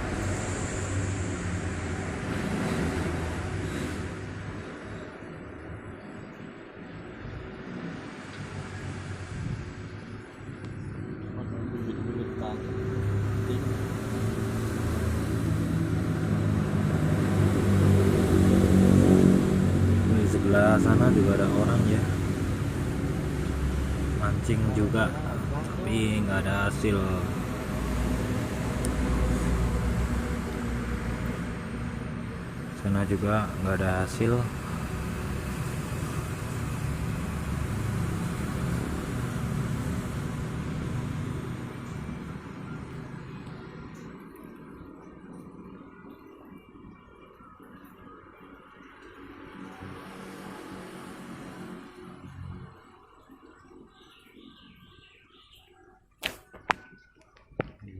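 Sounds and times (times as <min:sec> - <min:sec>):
vehicle rumble and tyre noise: 0:00.0 - 0:55.4.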